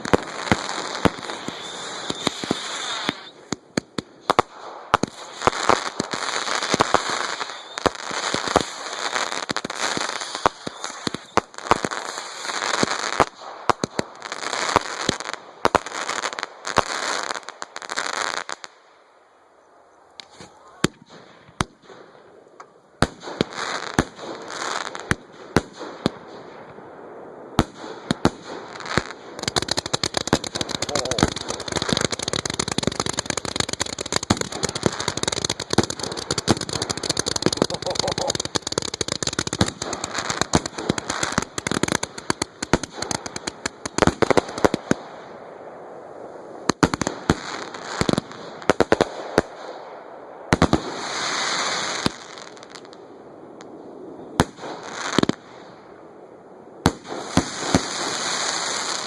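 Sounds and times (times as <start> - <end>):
fireworks bangs and crackling: 0.0 - 18.8, 20.2 - 59.0.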